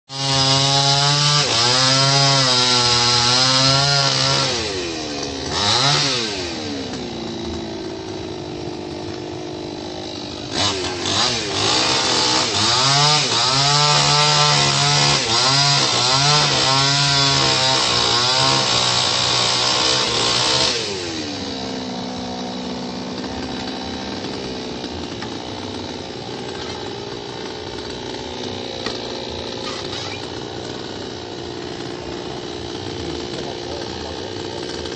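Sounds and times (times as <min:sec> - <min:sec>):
chainsaw revving and idling: 0:00.1 - 0:34.9.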